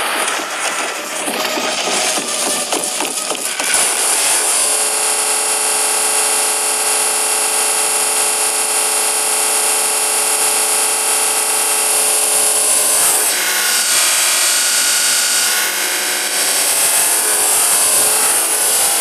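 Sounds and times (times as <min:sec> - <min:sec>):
vacuum cleaner motor running: 0:00.0 - 0:19.0.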